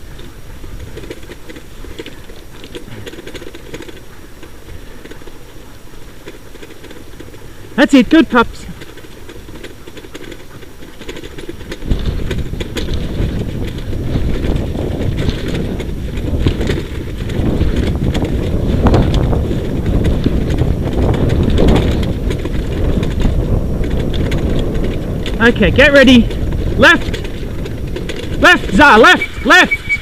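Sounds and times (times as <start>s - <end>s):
wheeled rig rumbling over dirt: 0.0s - 30.0s.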